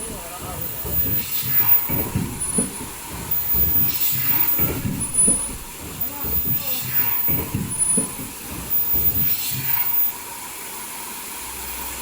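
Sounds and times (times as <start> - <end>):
low knocking: 0.0 - 10.2
machine hiss: 0.0 - 12.0.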